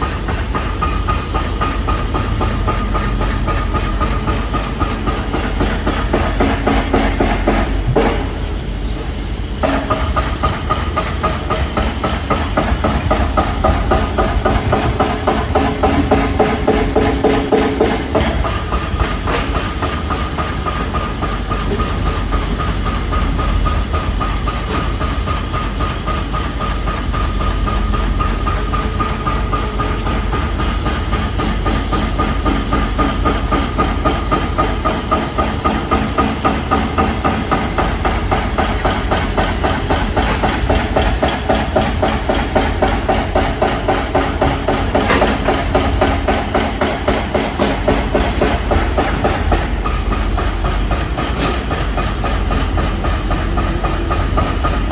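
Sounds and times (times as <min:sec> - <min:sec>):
machinery low rumble: 0:00.0 - 0:54.9
rapid hammering knocks: 0:09.6 - 0:23.6, 0:24.5 - 0:54.9.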